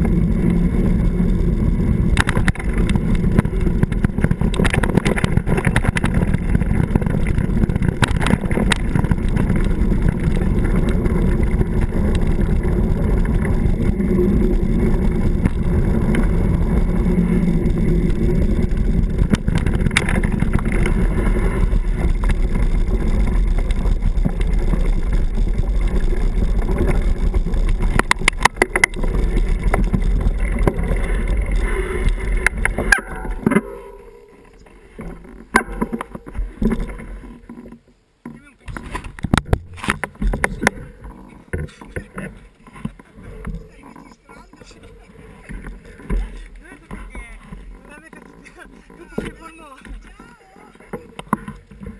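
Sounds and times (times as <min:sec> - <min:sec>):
bike rattling over stones: 0:00.0 - 0:51.9
bike tyres rumbling on gravel: 0:00.0 - 0:51.9
wind on camera: 0:00.0 - 0:51.9.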